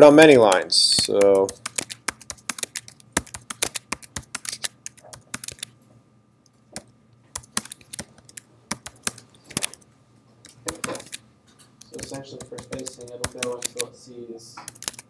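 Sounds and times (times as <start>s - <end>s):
computer keyboard typing: 0.1s - 5.8s, 6.8s - 11.2s, 11.8s - 13.9s, 14.6s - 15.0s.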